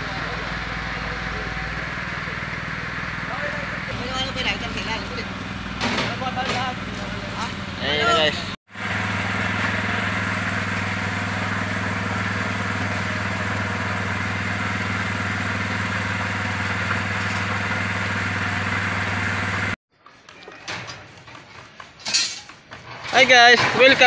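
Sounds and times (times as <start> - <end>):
small engine idling: 0.0 - 19.8
scattered site sounds: 0.1 - 19.8.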